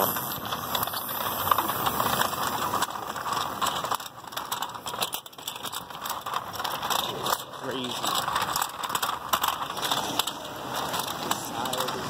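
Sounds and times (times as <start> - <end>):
cars passing on wet road: 0.0 - 12.0.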